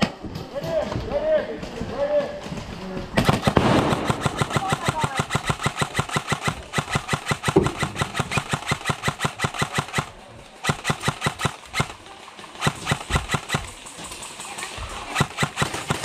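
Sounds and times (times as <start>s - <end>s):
airsoft rifle firing bursts: 3.2s - 16.0s.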